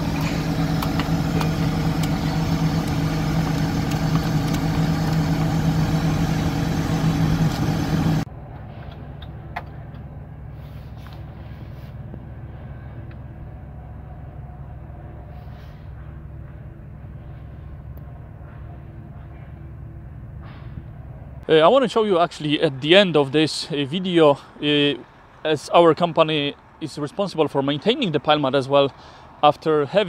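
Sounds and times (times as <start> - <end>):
low hum: 0.0 - 26.8
diesel engine idling: 0.0 - 30.0.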